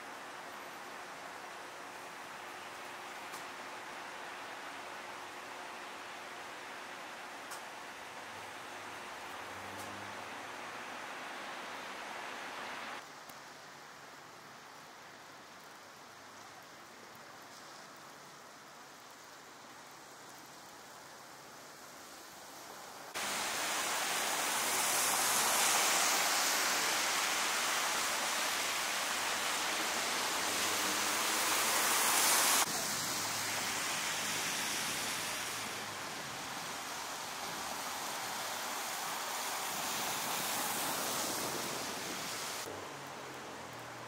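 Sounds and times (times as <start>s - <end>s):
faint low traffic rumble: 0.0s - 44.0s
rushing hiss of snowfall: 0.0s - 44.0s
tyres hissing on wet street: 0.0s - 44.0s.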